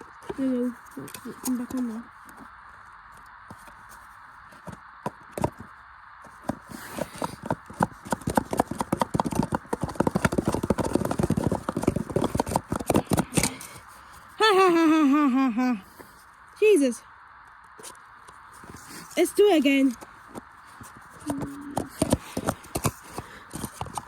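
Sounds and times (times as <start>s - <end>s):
washing machine whirring: 0.0s - 16.0s, 17.8s - 24.0s.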